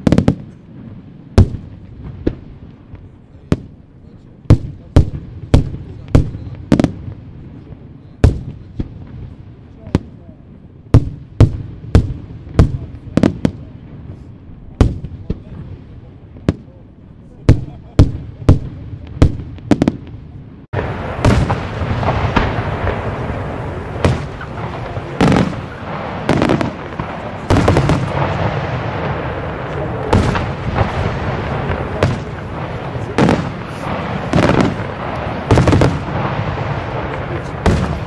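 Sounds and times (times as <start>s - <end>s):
firework bangs: 0.0s - 38.0s
firework booms: 0.0s - 38.0s
firework crackle and rumble: 0.0s - 38.0s.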